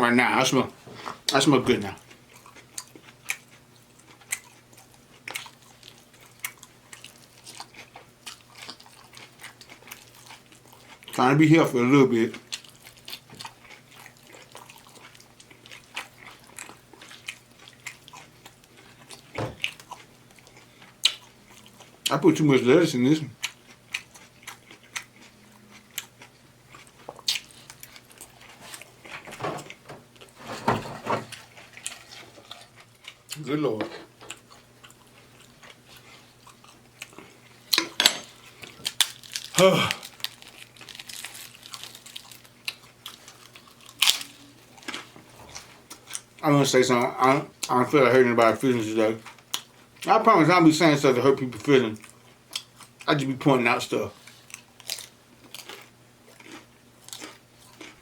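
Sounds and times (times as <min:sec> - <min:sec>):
close chewing and crunching: 0:01.0 - 0:30.5, 0:31.3 - 0:58.0.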